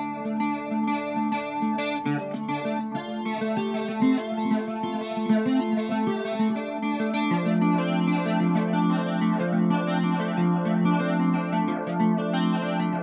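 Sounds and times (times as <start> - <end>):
electric guitar with effects: 0.0 - 13.0.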